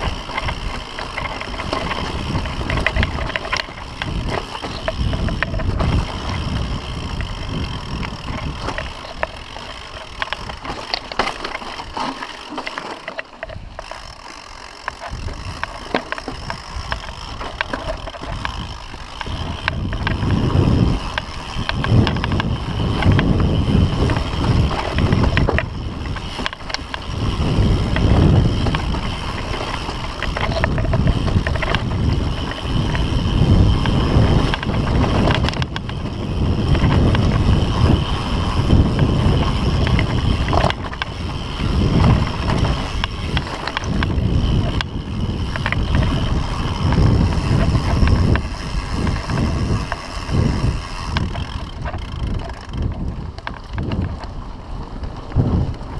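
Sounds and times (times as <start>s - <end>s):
wind buffeting microphone: 0.0s - 12.7s, 13.4s - 55.9s
bike clicks and rattles: 0.0s - 55.9s
bike tyre rumble on dirt: 0.0s - 55.9s.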